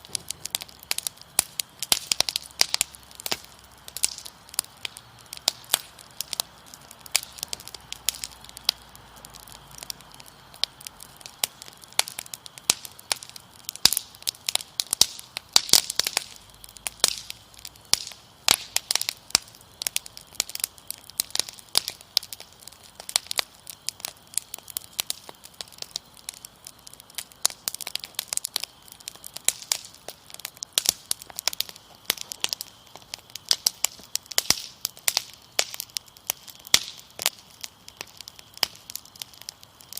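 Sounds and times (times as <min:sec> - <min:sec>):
crickets trilling: 0:00.0 - 0:39.9
wood fire crackling and popping: 0:00.0 - 0:39.9.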